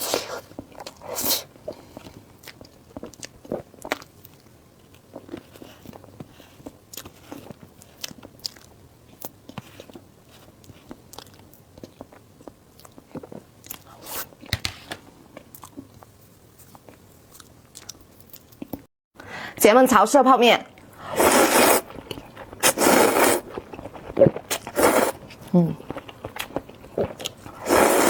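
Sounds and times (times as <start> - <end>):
person chewing and crunching: 0.1 - 14.2, 15.4 - 18.8, 21.7 - 28.0.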